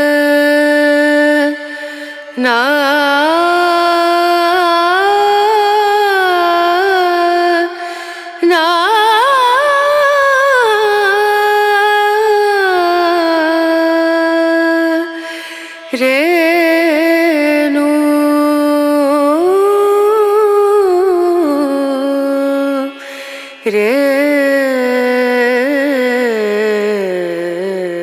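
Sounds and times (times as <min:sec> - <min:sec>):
person singing classical vocals: 0:00.0 - 0:28.0.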